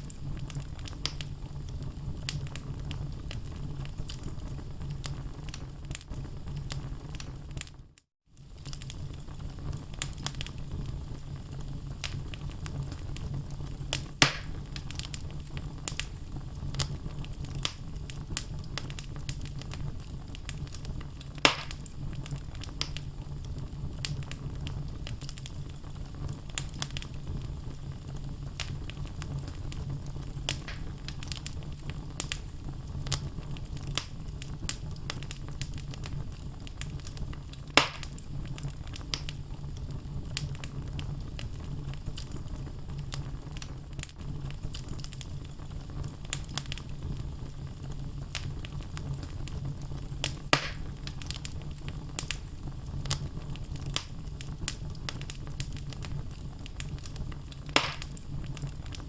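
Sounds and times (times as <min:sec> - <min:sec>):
loud fire pops: 0:00.0 - 0:07.7, 0:08.4 - 0:59.0
wood fire crackling: 0:00.0 - 0:59.0.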